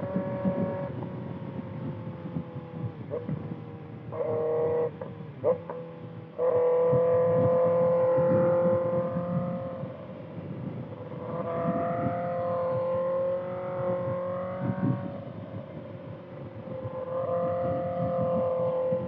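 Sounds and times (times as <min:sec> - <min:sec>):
motorcycle engine high revving: 0:00.0 - 0:19.0
rushing wind: 0:00.0 - 0:19.0.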